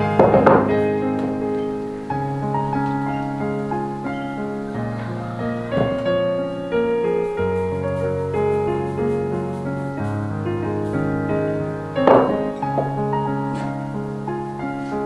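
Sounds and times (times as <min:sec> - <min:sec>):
gentle piano music: 0:00.0 - 0:15.0
soft rustle: 0:02.6 - 0:15.0.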